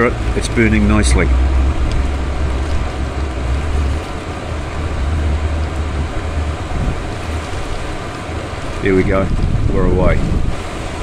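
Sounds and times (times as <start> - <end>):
heater combustion rumble: 0.0 - 11.0.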